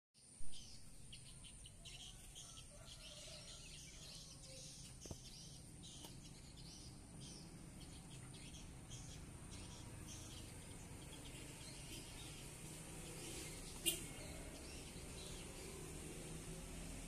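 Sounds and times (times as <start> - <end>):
lovebirds chirping: 0.2 - 17.0.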